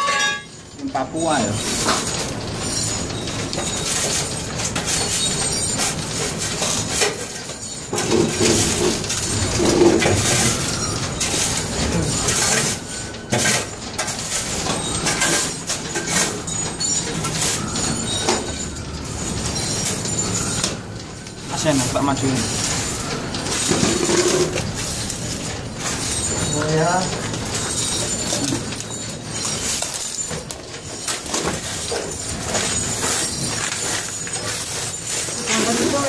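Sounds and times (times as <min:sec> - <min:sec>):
metal shavings scraping and clinking: 0:00.0 - 0:36.0.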